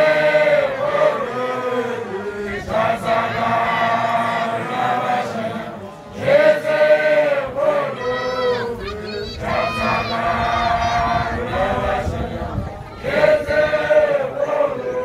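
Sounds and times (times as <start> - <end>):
group of voices chanting: 0.0 - 15.0.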